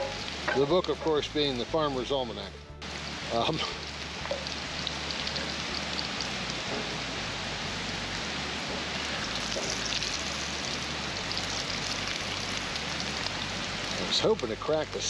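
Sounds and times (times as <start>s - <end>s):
sausage sizzling over fire: 0.0s - 15.0s.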